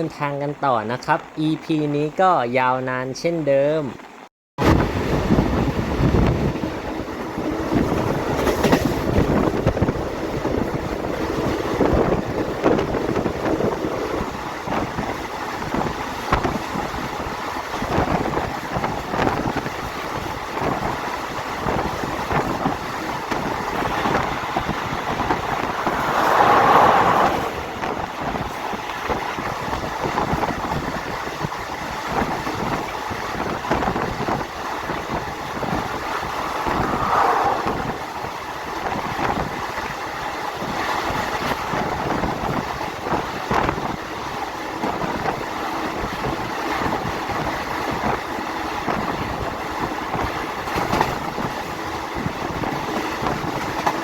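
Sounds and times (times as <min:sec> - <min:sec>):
train wheel and wind noise: 0:00.0 - 0:54.0.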